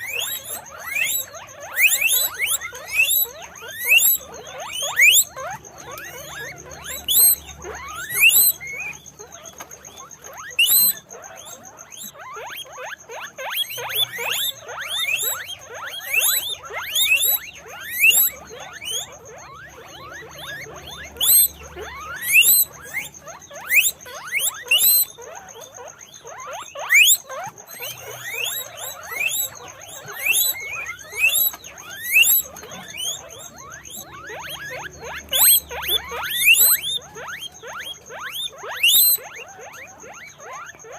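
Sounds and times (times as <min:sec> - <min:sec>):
guinea pigs squeaking: 0:00.0 - 0:40.9.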